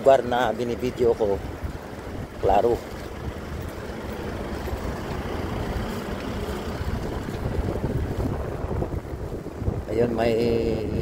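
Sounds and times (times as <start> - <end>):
traffic noise: 0.0 - 11.0
wind buffeting microphone: 0.0 - 11.0.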